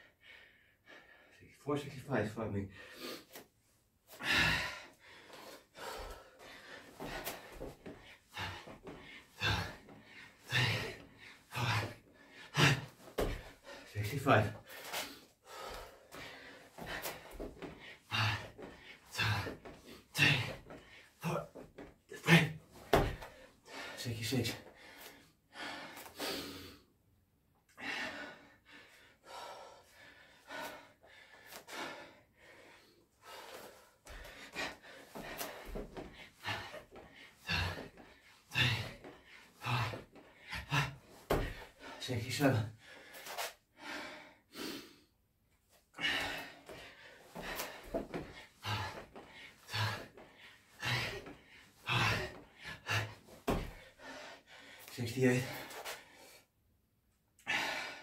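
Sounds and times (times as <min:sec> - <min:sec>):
man gasping breaths: 0:02.7 - 0:03.5, 0:04.1 - 0:27.0, 0:27.7 - 0:45.2, 0:45.8 - 0:56.5, 0:57.4 - 0:58.0.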